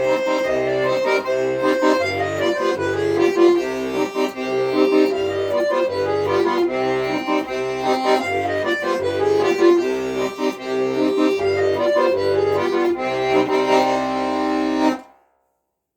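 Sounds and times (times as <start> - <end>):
accordion playing: 0.0 - 15.1.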